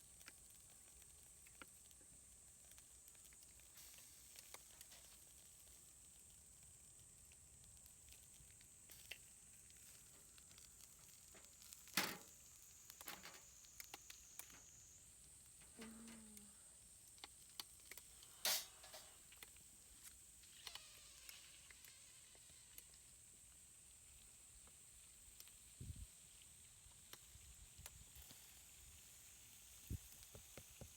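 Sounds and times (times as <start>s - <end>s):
thin high hiss: 2.7s - 30.9s.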